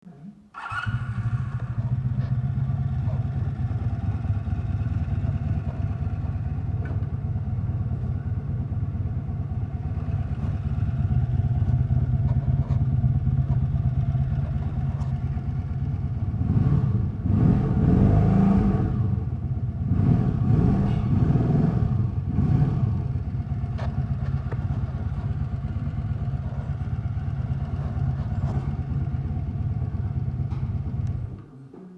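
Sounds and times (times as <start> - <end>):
motorcycle engine idling and revving: 0.6 - 31.6.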